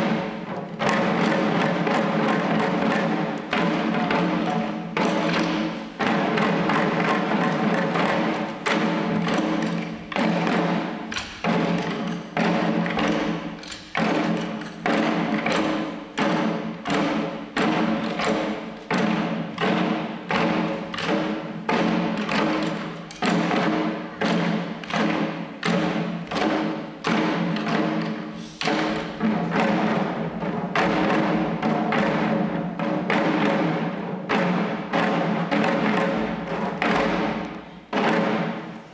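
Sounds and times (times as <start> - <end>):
small drums beating: 0.0 - 38.9.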